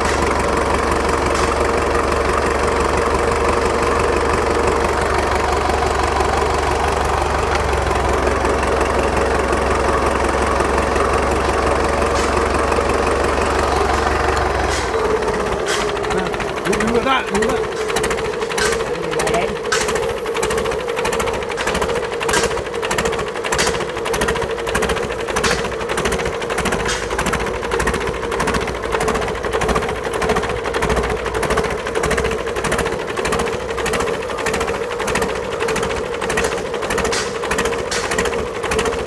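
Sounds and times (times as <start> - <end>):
diesel engine clattering: 0.0 - 39.0.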